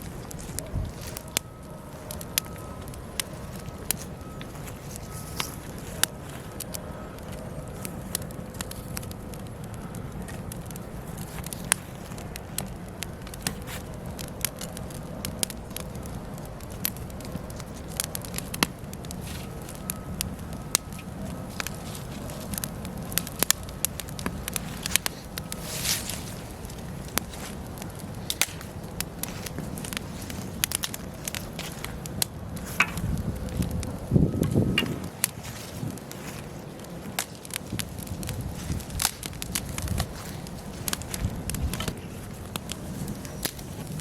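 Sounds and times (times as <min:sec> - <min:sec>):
fire crackling and popping: 0:00.0 - 0:44.0
low rumble of flames: 0:00.0 - 0:44.0.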